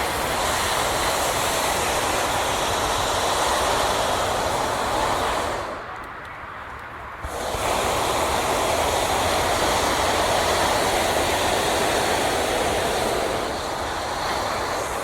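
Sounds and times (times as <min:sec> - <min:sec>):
propane burner blast: 0:00.0 - 0:06.1, 0:07.1 - 0:15.0.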